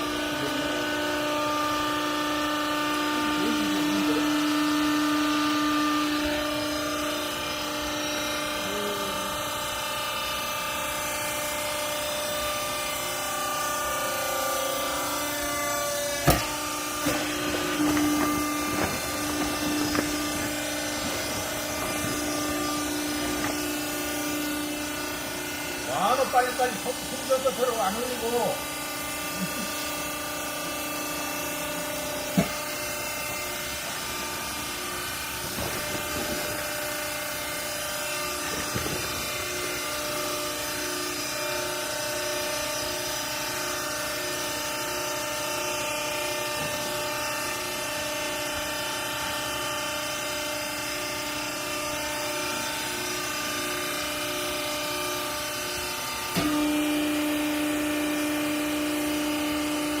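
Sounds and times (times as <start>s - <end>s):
baling machine motor humming: 0.0s - 48.8s.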